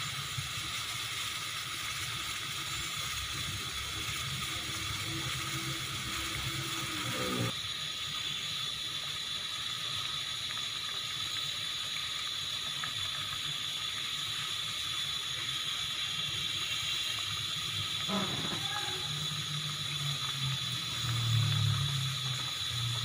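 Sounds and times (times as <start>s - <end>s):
fruit simmering with fine bubbling: 0.0s - 23.0s.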